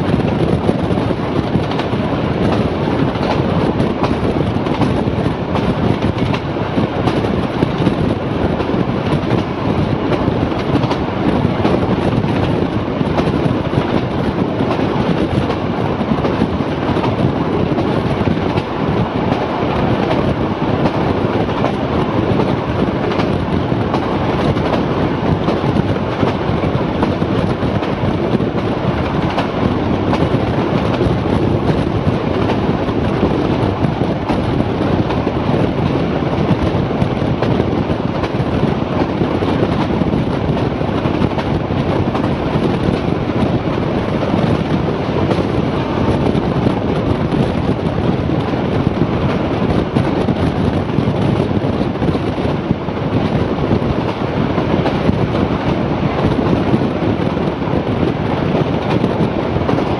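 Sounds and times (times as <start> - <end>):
train wheels rumbling on rails: 0.0 - 59.9
wind rushing past microphone: 0.0 - 59.9.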